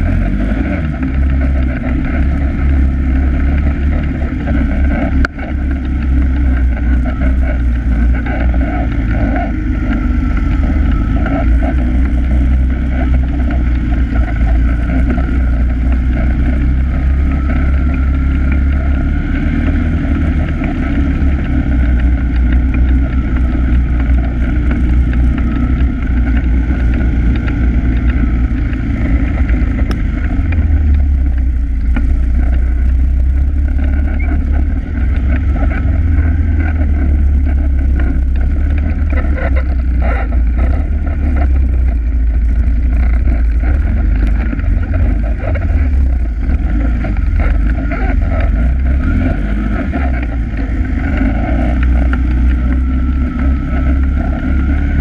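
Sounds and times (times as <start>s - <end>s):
quad bike engine droning: 0.0s - 55.0s.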